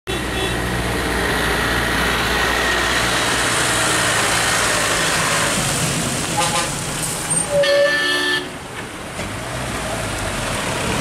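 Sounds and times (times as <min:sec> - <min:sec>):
road noise: 0:00.1 - 0:11.0
diesel truck engine passing: 0:00.2 - 0:07.6, 0:08.5 - 0:11.0.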